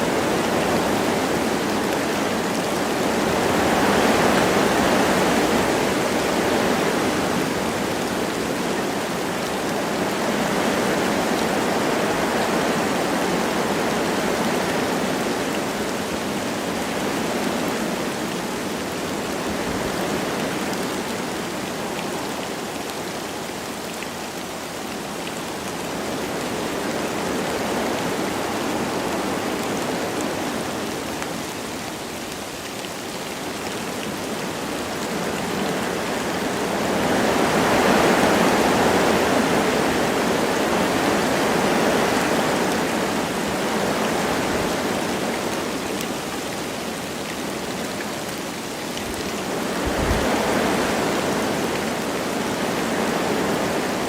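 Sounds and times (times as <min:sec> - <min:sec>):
light rain falling: 0:00.0 - 0:54.0
wind through trees: 0:00.0 - 0:54.0.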